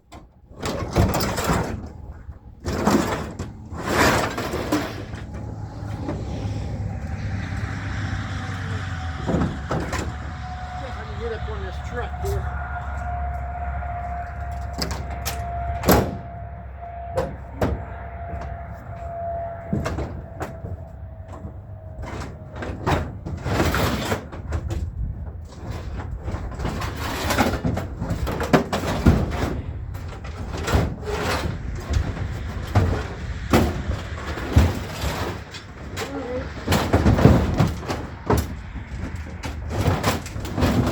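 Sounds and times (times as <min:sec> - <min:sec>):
metal scraping on truck bed: 0:00.0 - 0:40.9
scrap metal clanking: 0:00.1 - 0:40.9.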